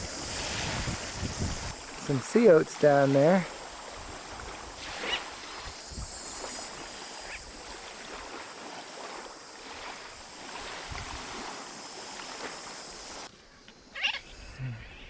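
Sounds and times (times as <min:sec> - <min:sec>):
surf: 0:00.0 - 0:13.4
wind: 0:00.0 - 0:15.0.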